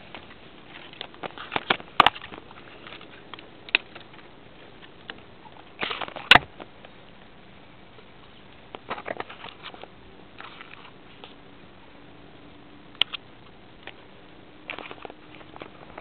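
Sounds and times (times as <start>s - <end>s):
rustling branches and leaves: 0.0s - 16.0s.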